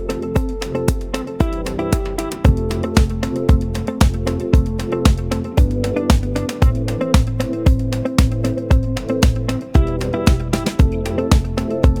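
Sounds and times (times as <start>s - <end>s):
dance music with kick drum: 0.0s - 12.0s.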